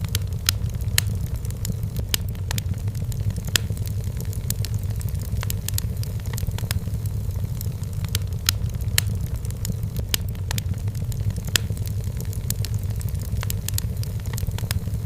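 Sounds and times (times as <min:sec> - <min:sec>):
sharp pops of fire: 0:00.0 - 0:15.0
steady low rumble: 0:00.0 - 0:15.0
wood fire crackling: 0:00.0 - 0:15.0.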